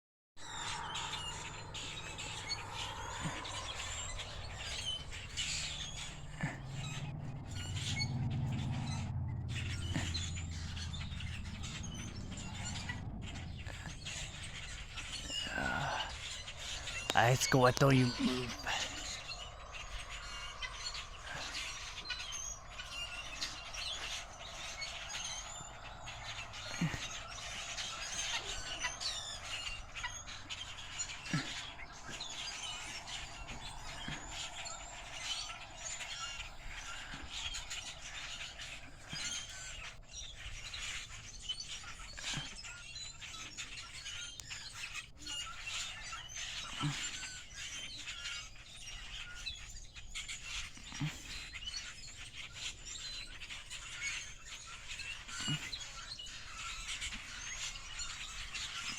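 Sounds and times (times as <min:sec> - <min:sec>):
birds chirping: 0:00.4 - 0:58.9.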